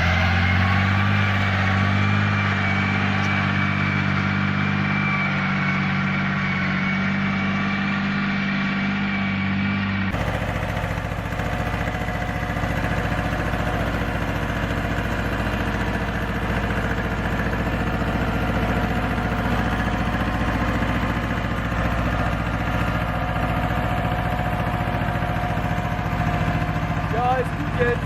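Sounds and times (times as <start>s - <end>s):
mini tractor engine running: 0.0s - 28.0s.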